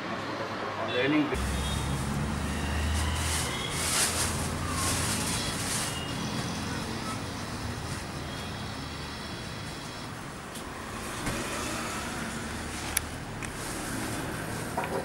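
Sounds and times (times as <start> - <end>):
traffic engines rumbling: 0.0 - 15.0.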